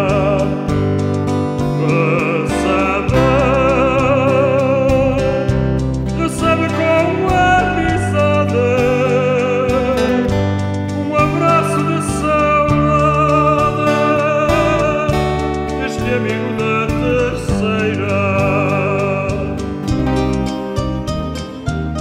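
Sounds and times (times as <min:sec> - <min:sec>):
steady bass line: 0:00.0 - 0:22.0.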